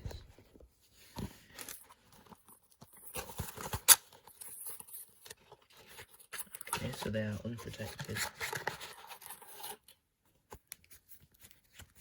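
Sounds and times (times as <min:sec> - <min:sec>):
soft plastic rustling: 0:00.0 - 0:12.0.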